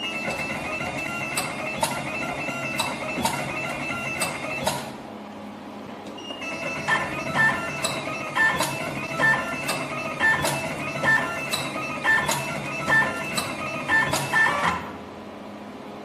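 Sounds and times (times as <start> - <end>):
sharp machine clicks: 0.0 - 5.0, 6.4 - 15.0
machine whine: 0.0 - 5.3, 6.1 - 15.4.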